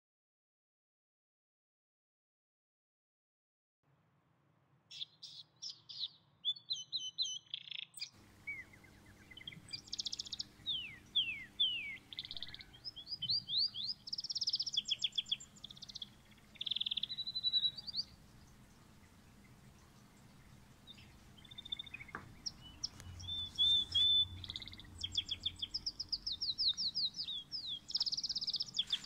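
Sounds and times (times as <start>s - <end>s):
birds chirping and singing: 4.9s - 29.0s.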